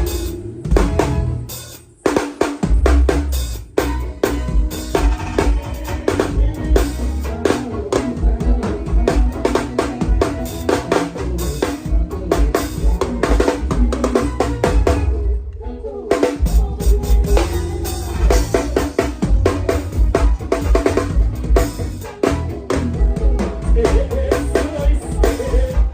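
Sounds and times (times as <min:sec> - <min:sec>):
bass and keyboard music: 0:00.0 - 0:25.9
drum kit playing: 0:00.0 - 0:25.9.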